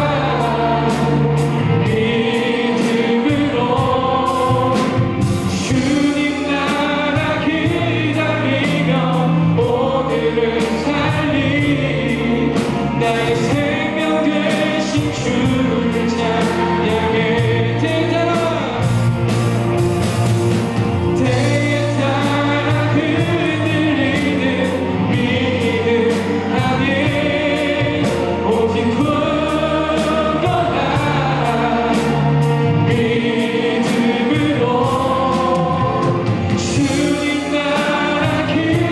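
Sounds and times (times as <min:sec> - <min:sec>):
band playing: 0:00.0 - 0:38.9
steady cymbal beat: 0:00.0 - 0:38.9
voices singing together: 0:00.0 - 0:38.9.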